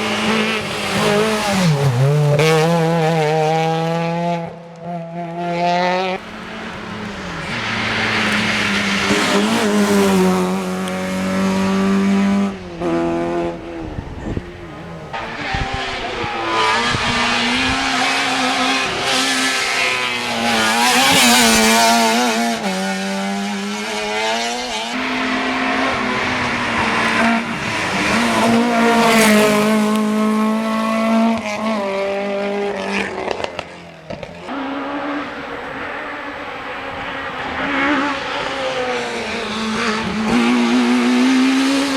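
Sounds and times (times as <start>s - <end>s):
rally car engines revving: 0.0s - 41.9s.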